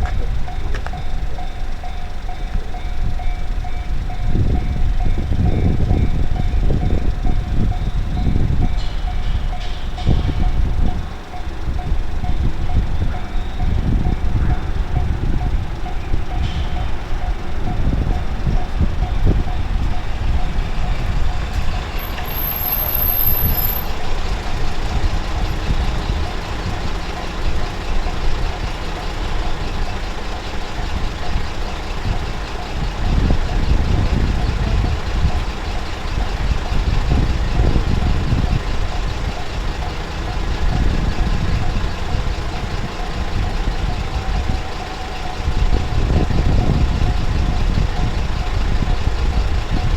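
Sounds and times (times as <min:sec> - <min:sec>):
heavy low rumble: 0:00.0 - 0:49.9
level crossing warning bell: 0:00.0 - 0:49.9.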